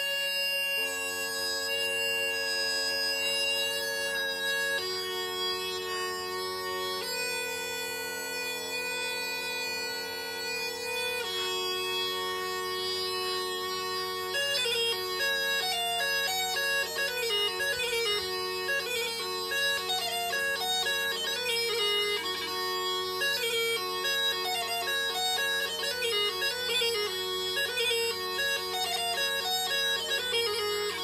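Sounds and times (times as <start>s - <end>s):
bagpipe drones: 0.0s - 31.0s
bagpipe melody: 0.0s - 31.0s.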